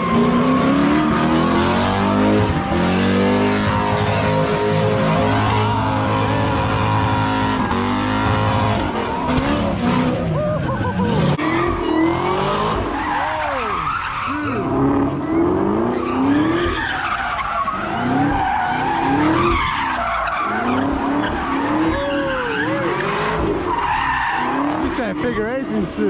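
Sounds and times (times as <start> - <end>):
car engine revving: 0.0 - 26.0
tyres squealing on asphalt: 0.0 - 26.0.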